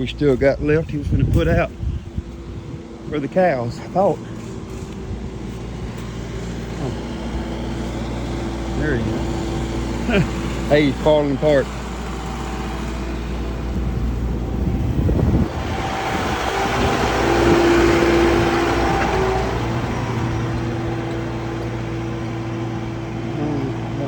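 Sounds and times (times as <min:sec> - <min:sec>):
farm vehicle engine passing: 0:00.0 - 0:24.0
low engine hum: 0:00.0 - 0:24.0.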